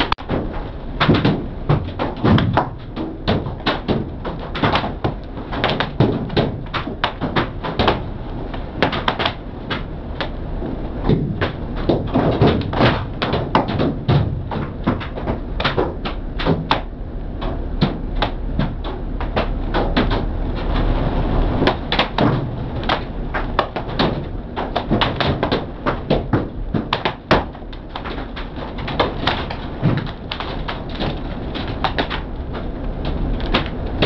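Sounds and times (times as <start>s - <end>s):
hail knocking on car roof: 0.0s - 10.4s, 11.0s - 34.0s
rain: 0.0s - 34.0s
steady low rumble: 0.0s - 34.0s.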